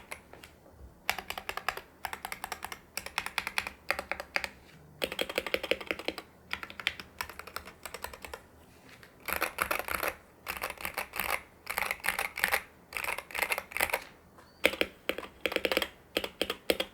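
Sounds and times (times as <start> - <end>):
keyboard typing clacks: 1.1 - 8.4, 9.2 - 16.9.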